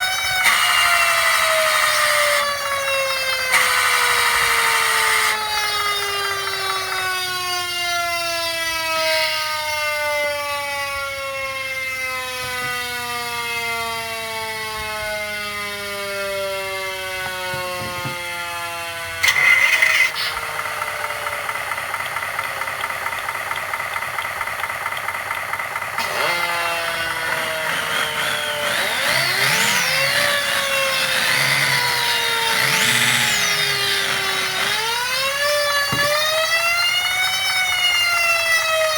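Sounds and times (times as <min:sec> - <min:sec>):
fire truck siren: 0:00.0 - 0:38.9.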